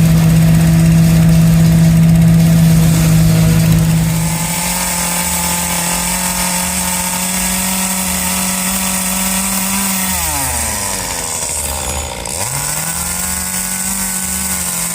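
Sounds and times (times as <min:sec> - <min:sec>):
small engine running fast: 0:00.0 - 0:14.9.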